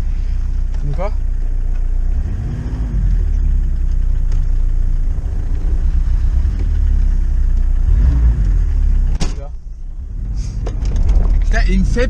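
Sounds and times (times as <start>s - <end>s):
diesel engine and road rumble: 0.0s - 12.0s.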